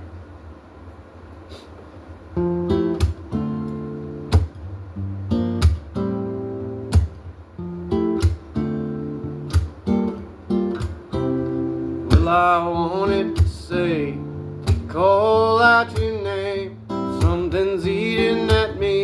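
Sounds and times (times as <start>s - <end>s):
acoustic guitar strumming chords: 2.4s - 19.0s.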